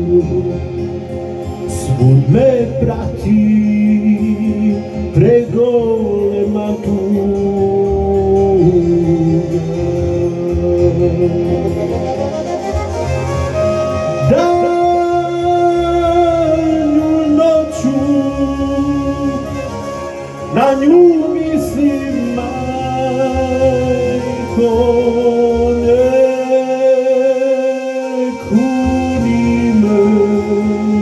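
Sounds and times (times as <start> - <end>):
electronic keyboard folk melody: 0.0 - 31.0.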